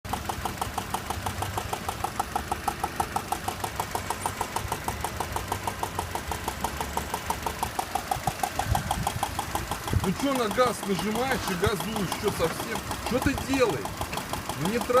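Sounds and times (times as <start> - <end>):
car engine idling: 0.0 - 15.0
rapid metallic ticking: 0.1 - 15.0.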